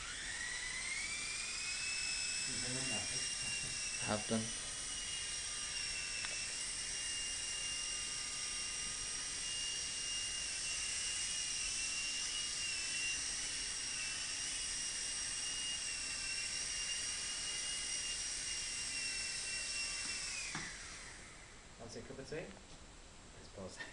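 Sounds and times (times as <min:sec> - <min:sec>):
toy helicopter motor whine: 0:00.0 - 0:21.6.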